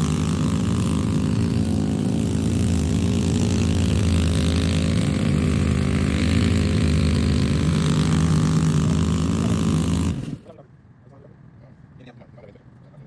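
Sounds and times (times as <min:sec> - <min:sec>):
large engine running steadily: 0:00.0 - 0:10.6.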